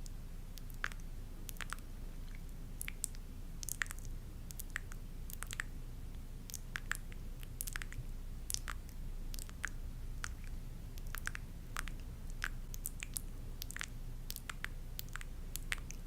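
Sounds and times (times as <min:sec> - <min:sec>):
low steady hum: 0:00.0 - 0:16.0
soft wet clicks: 0:00.0 - 0:16.0.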